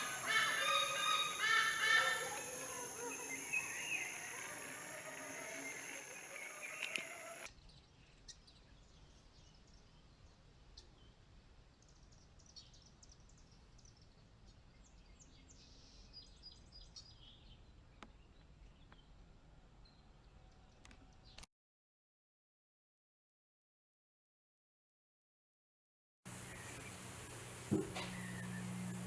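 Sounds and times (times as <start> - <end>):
small birds chirping: 0.0 - 21.4, 26.3 - 29.0.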